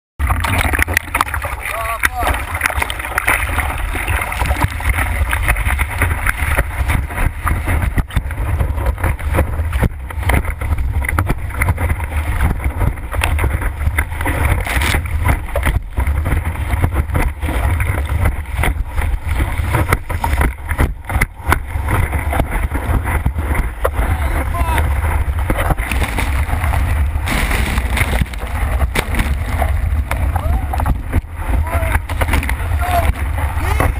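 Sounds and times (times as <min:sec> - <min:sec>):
rushing surf: 0:00.2 - 0:33.9
water splashes and knocks: 0:00.2 - 0:33.9
wind buffeting microphone: 0:00.2 - 0:33.9.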